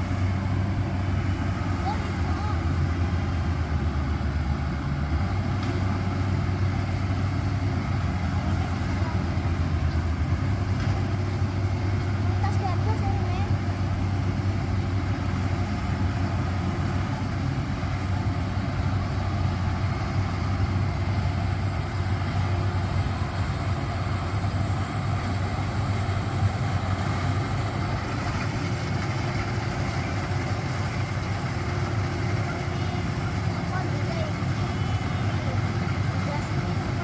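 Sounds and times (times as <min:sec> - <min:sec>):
combine harvester engine drone: 0:00.0 - 0:37.0.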